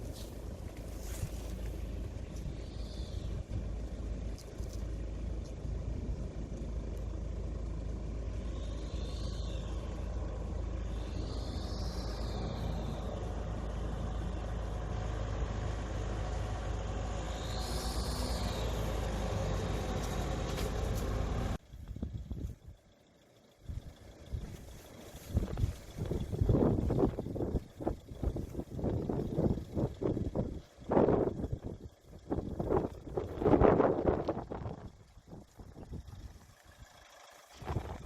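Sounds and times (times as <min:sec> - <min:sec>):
faint rising and falling whines: 0:00.0 - 0:38.0
vehicle rumbling in motion: 0:00.0 - 0:38.0.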